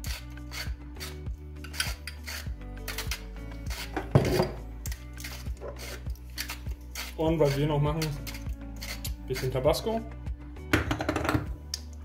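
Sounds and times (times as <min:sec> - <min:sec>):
metal spoon scraping plastic bowl: 0:00.0 - 0:09.9
background music with beat: 0:00.0 - 0:12.0.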